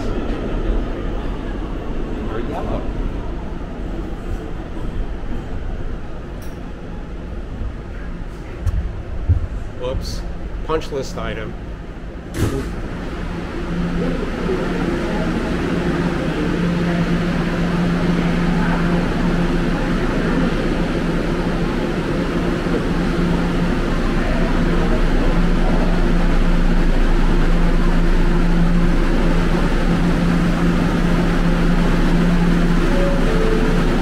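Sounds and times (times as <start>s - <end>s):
train low hum: 0.0s - 34.0s.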